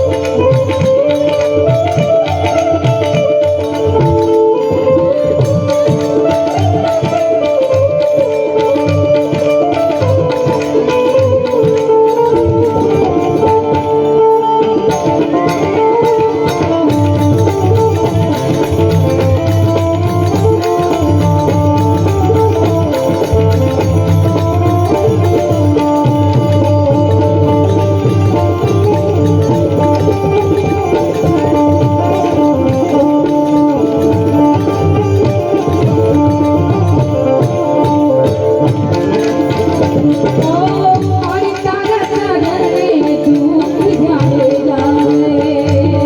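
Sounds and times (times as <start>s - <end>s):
indian-style music with drums: 0.0s - 46.0s.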